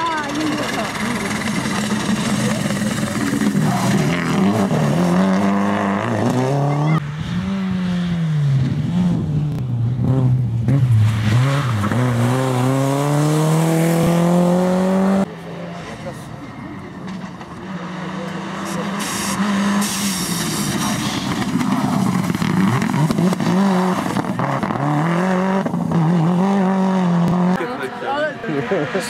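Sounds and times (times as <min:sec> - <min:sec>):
rally car accelerating: 0:00.0 - 0:29.0
rally car engine revving: 0:00.0 - 0:29.0.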